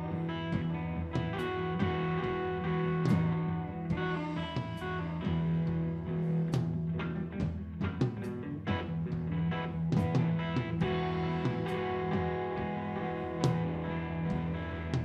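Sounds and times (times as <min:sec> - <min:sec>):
drum kit with cymbal crashes: 0:00.0 - 0:15.0
electric guitar riff: 0:00.0 - 0:15.0.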